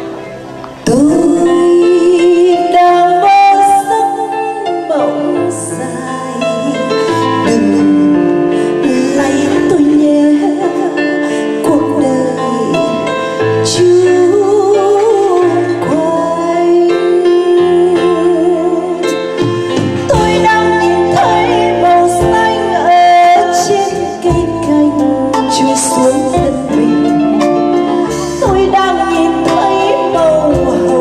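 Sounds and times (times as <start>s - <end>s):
live band with guitar and drums: 0.0s - 31.0s
woman singing into a microphone: 0.0s - 31.0s.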